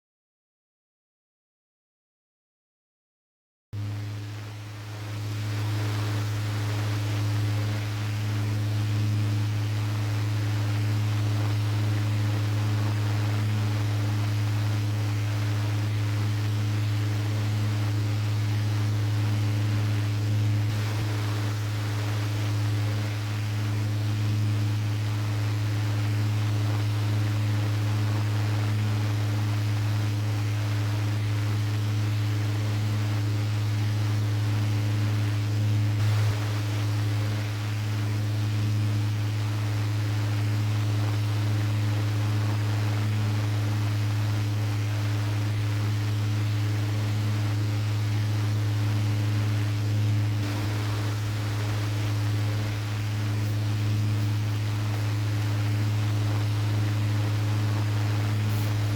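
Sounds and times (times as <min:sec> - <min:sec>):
desk fan motor hum: 0:03.8 - 0:58.9
rush of air from fan blades: 0:03.8 - 0:58.9.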